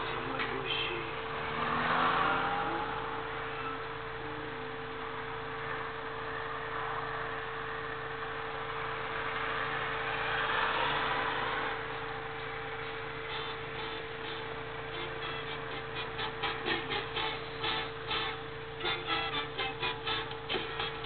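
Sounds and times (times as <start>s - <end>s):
constant hum: 0.0s - 21.0s
road traffic: 0.0s - 21.0s
vehicles passing: 0.0s - 21.0s.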